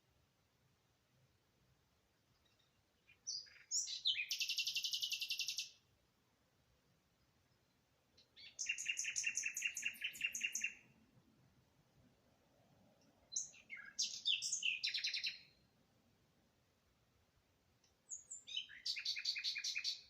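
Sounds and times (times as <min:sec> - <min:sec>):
songbird singing: 0:02.0 - 0:06.0, 0:06.7 - 0:11.3, 0:12.0 - 0:20.0.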